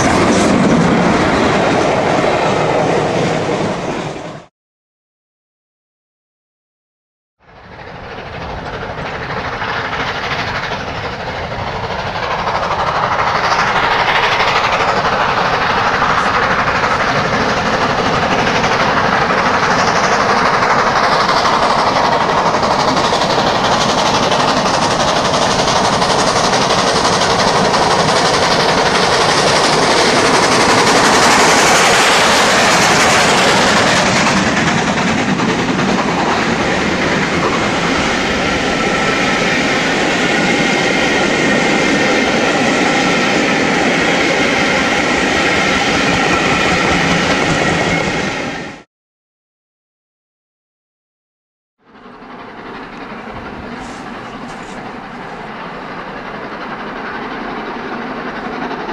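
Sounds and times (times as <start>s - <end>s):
steam locomotives working hard: 0.0s - 4.5s, 7.4s - 48.9s, 51.8s - 58.9s.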